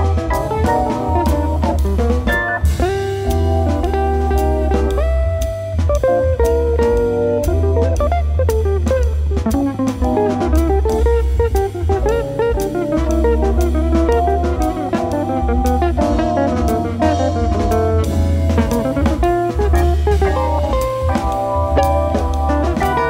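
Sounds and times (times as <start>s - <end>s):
bass line: 0.0s - 23.0s
drum kit: 0.0s - 23.0s
guitar: 0.0s - 23.0s
hammond organ: 0.0s - 23.0s.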